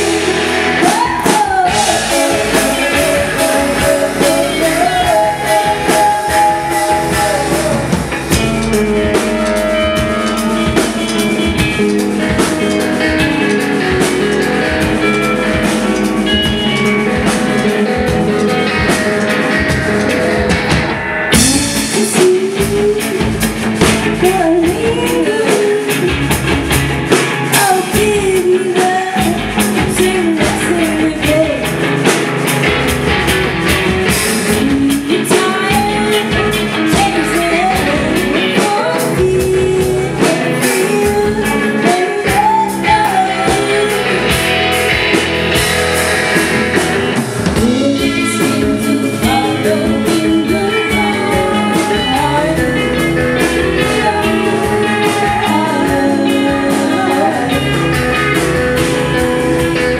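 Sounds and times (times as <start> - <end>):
lead vocal singing: 0.0 - 32.5, 33.6 - 59.9
live rock band playing: 0.0 - 59.9.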